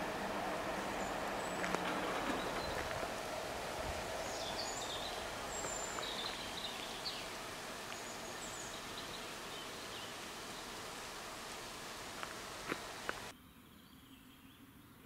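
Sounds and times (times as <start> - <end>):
steady rushing noise: 0.0 - 13.3
bird chirps: 0.8 - 3.1, 4.1 - 14.6.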